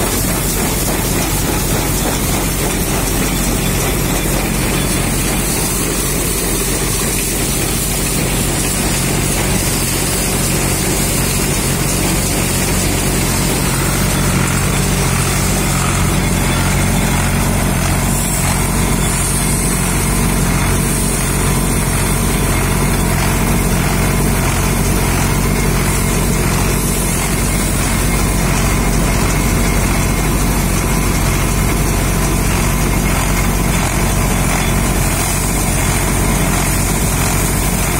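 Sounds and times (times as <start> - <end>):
machinery running: 0.0 - 37.9
tractor diesel engine running: 0.0 - 37.9.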